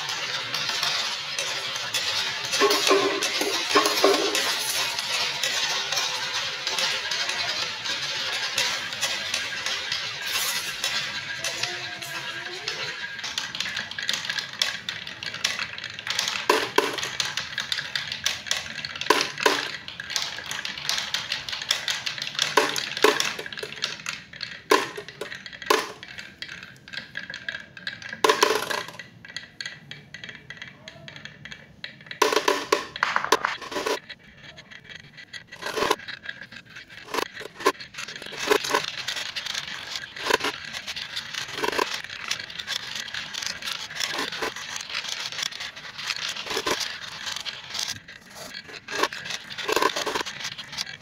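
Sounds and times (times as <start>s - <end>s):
marbles clacking into container: 0.0s - 51.0s
marbles rattling down wooden track: 0.0s - 51.0s.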